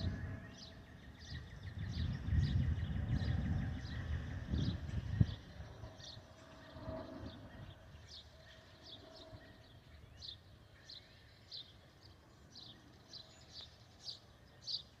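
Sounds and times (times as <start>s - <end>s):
bird chirping: 0.0s - 15.0s
faint low outdoor rumble: 0.0s - 15.0s.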